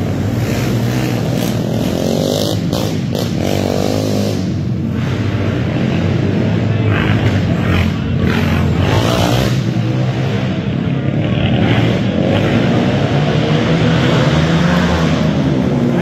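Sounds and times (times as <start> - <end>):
quad engines revving: 0.0 - 16.0.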